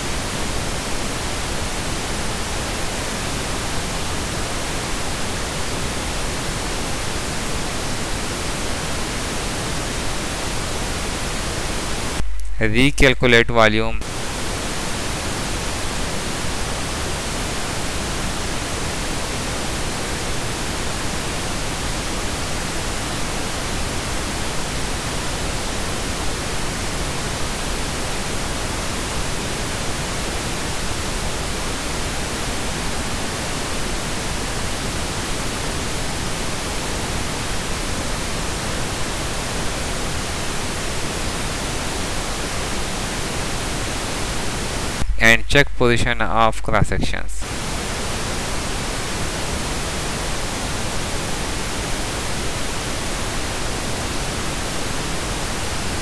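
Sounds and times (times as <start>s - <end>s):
steady static hiss: 0.0s - 56.0s.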